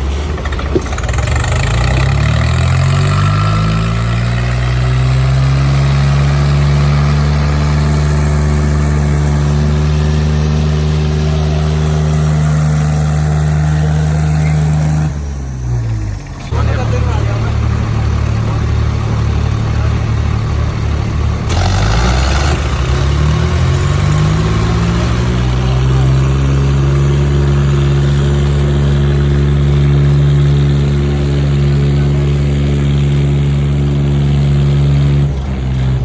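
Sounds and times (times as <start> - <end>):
diesel tractor engines straining: 0.0 - 36.0.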